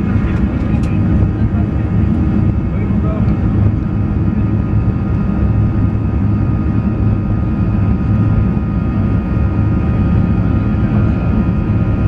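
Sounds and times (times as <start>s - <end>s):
jet engine rumble: 0.0s - 12.0s.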